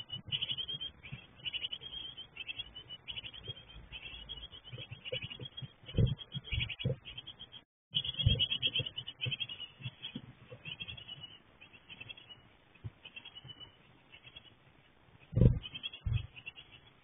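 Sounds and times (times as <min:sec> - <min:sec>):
nestlings begging calls: 0:00.0 - 0:17.0.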